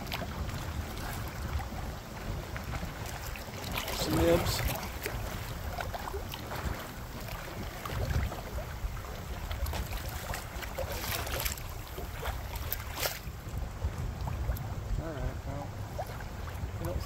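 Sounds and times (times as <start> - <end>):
light clicks and splashes: 0.0 - 17.0
waves lapping against hull: 0.0 - 17.0
wind buffeting microphone: 0.0 - 17.0.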